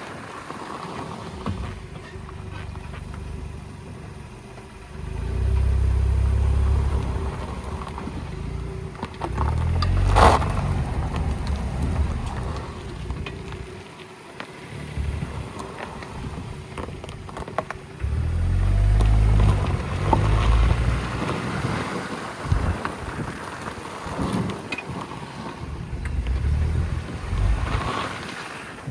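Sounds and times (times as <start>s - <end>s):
road and wind rumble: 0.0s - 28.9s.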